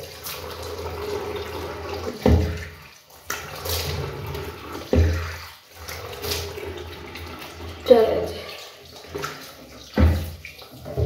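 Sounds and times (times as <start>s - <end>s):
tap water splashing into sink: 0.0s - 11.0s.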